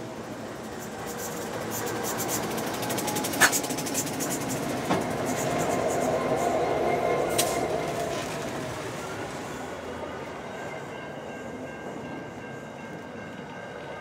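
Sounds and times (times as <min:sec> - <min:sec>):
diesel locomotive engines: 0:00.0 - 0:14.0
train wheels on rails: 0:00.0 - 0:14.0.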